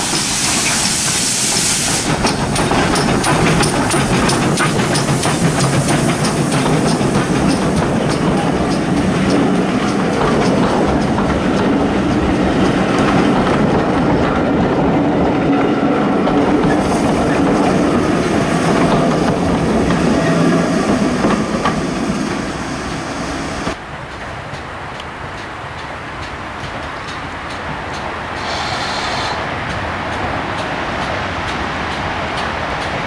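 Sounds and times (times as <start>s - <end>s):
wheels clicking over rail joints: 0.0s - 23.0s, 23.6s - 33.0s
steam train passing: 0.0s - 33.0s.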